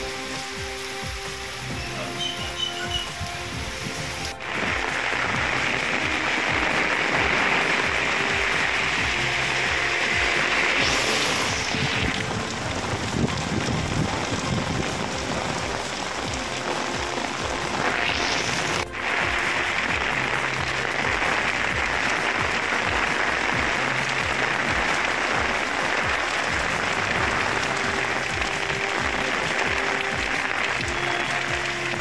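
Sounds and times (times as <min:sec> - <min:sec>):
heavy rain on pavement: 0:00.0 - 0:32.0.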